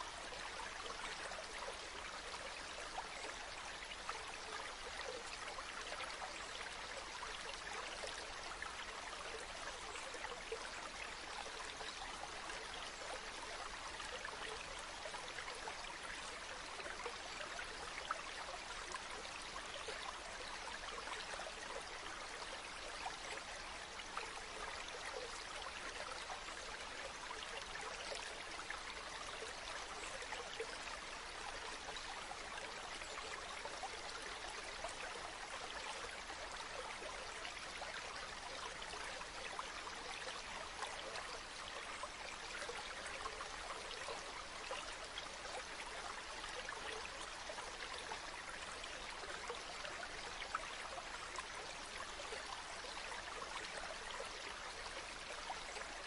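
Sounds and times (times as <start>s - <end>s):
river water rushing and babbling: 0.0s - 56.0s.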